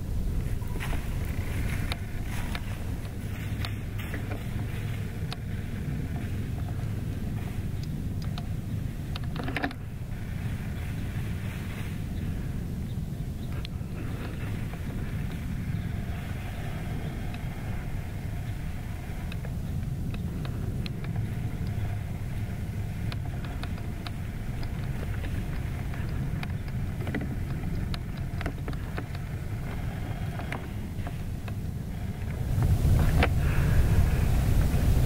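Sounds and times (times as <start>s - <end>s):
faint crackles: 0.0s - 35.0s
low rumble: 0.0s - 35.0s.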